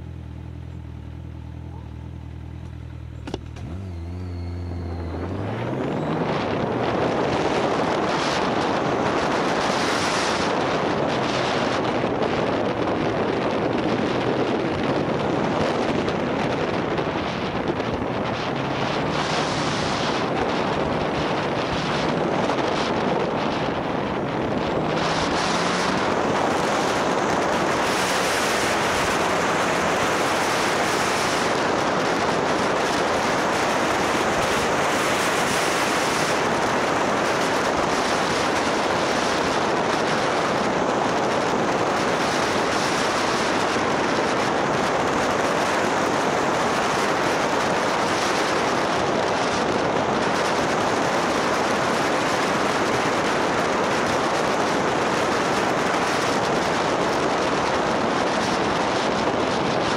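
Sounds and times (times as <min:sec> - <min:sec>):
wind rushing over microphone: 0:02.3 - 0:59.9.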